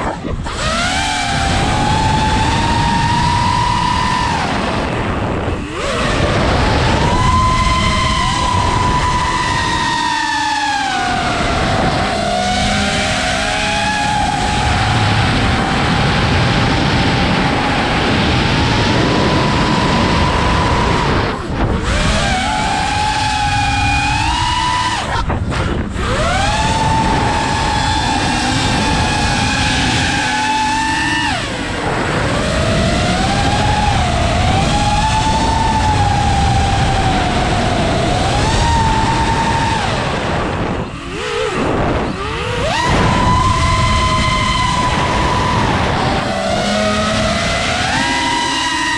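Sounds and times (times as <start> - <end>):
heavy wind rush: 0.0 - 48.9
quadcopter motors whining: 0.0 - 48.9.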